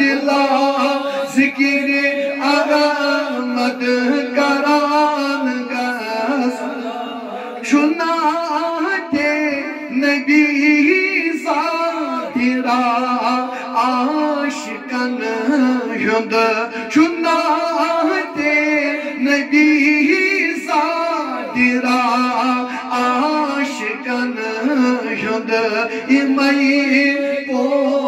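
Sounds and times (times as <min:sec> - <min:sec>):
two men singing devotional song: 0:00.0 - 0:28.0.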